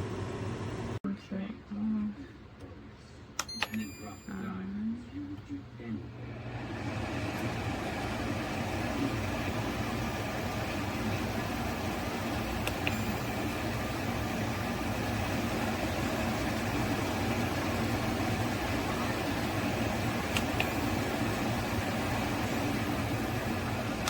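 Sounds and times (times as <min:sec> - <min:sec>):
air conditioner hum and fan: 0:00.0 - 0:24.0.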